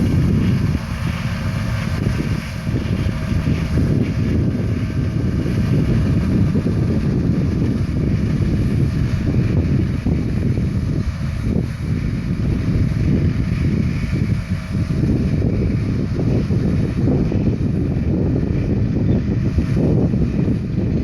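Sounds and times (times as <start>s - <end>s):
combine harvester engine drone: 0.0s - 21.0s
wind buffeting microphone: 0.0s - 21.0s.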